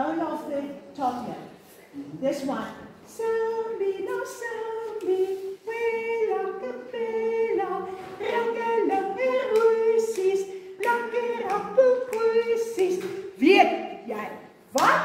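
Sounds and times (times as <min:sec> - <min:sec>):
woman singing unaccompanied: 0:02.3 - 0:15.0.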